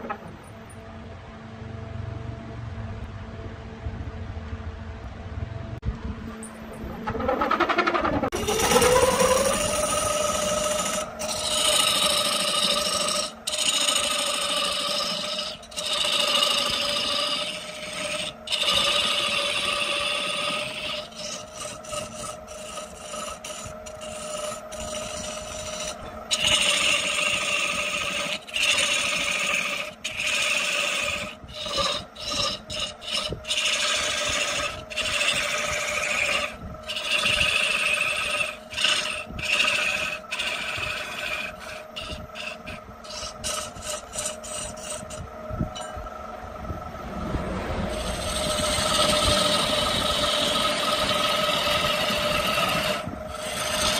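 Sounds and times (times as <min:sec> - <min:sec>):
turning tool scraping wood: 0:00.0 - 0:00.3, 0:07.0 - 0:46.0, 0:47.8 - 0:53.9
wood lathe motor running: 0:06.9 - 0:53.9.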